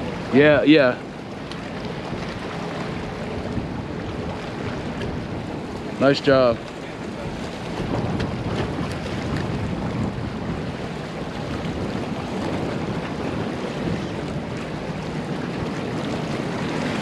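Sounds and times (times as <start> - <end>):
moving water: 0.0 - 17.0
wind on microphone: 0.0 - 17.0.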